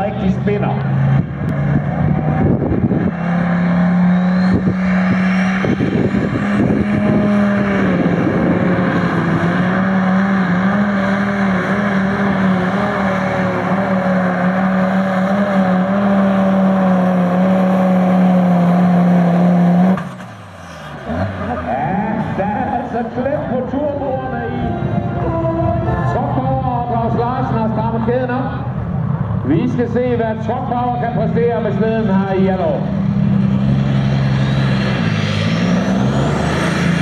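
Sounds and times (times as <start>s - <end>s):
tractor engine at high revs: 0.0s - 28.3s, 30.2s - 37.0s.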